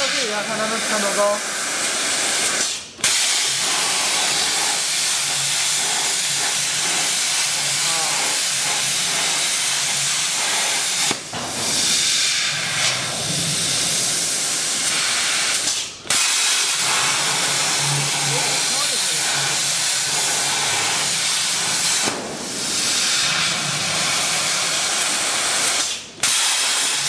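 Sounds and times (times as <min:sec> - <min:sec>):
plasma torch hissing: 0:00.0 - 0:27.0.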